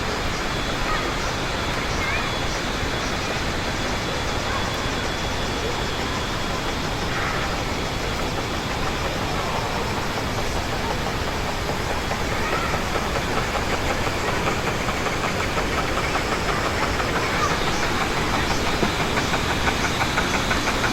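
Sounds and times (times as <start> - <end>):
water wheel rhythmic knocking: 0.0 - 20.9.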